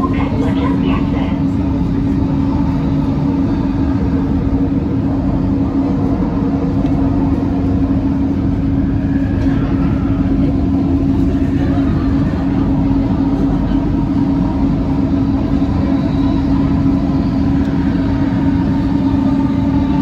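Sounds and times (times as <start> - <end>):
traction drive hum: 0.0 - 20.0.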